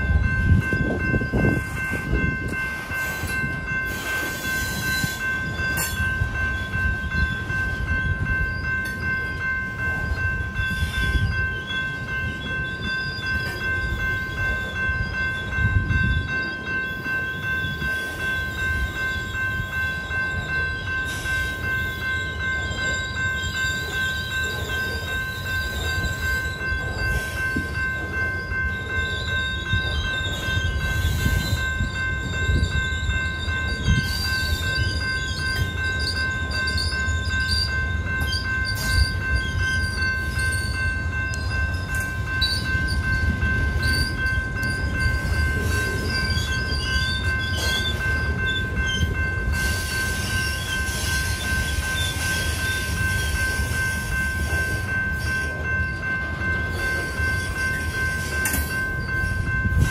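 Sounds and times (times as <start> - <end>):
crossing bell ringing: 0.0 - 59.9
train wheels rumbling on rails: 0.0 - 59.9
wavering high squeal: 0.1 - 59.9.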